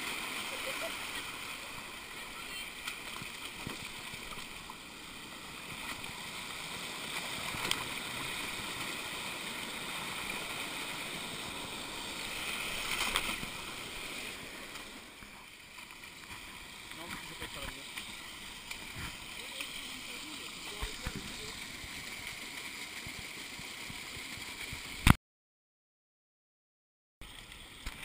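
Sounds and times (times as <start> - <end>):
stream rushing over stones: 0.0 - 25.2
water splashing: 0.0 - 25.2.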